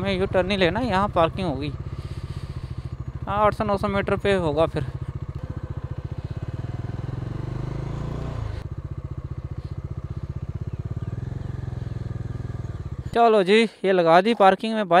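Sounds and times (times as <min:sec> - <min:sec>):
motorcycle engine running slowly: 0:00.0 - 0:13.2.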